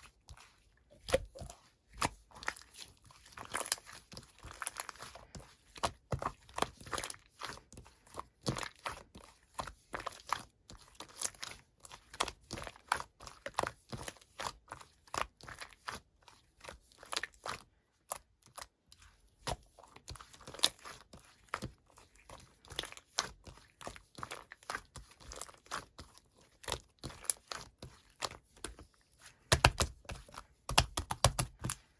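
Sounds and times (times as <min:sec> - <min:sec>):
slime squishing and crackling: 0:00.0 - 0:31.9.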